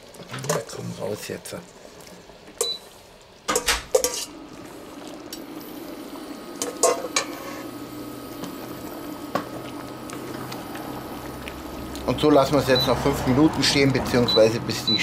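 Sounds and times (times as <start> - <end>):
sauce bubbling: 0.0 - 15.0.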